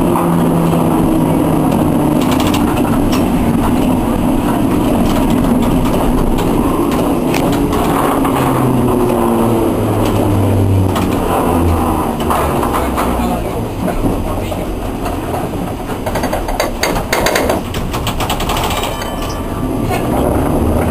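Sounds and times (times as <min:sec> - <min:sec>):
motor and gear hum: 0:00.0 - 0:20.9
tram wheels rumbling on rails: 0:00.0 - 0:20.9.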